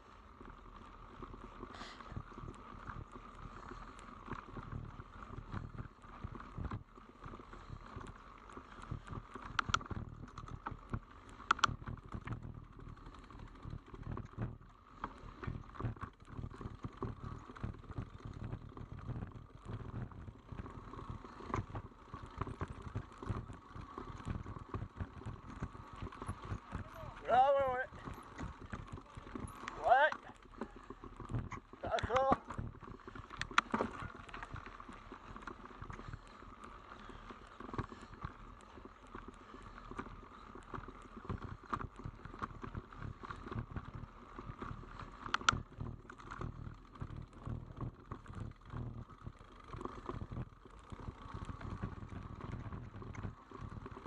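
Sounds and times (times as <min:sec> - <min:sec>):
mountain bike rattling on trail: 0:00.0 - 0:54.0.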